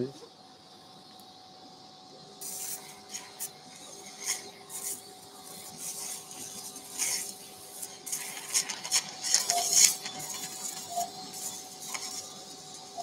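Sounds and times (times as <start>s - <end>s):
faint electrical hum: 0.0s - 13.0s
surgical instruments hissing and crackling: 2.4s - 13.0s.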